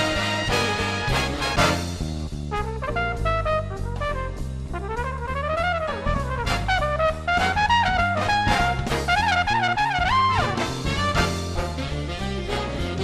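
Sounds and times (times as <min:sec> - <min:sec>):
brass-led swing jazz music: 0:00.0 - 0:13.0
trumpet melody: 0:00.0 - 0:13.0.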